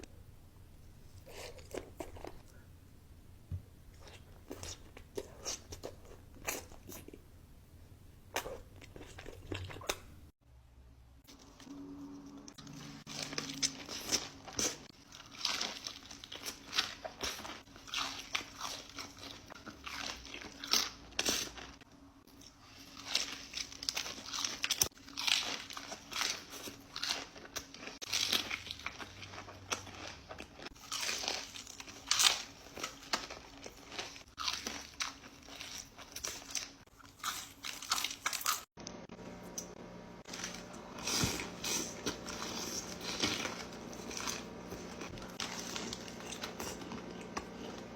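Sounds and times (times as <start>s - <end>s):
crunchy chewing of food: 1.1s - 2.7s, 3.9s - 7.3s, 8.3s - 10.3s, 11.3s - 38.8s, 40.2s - 47.9s.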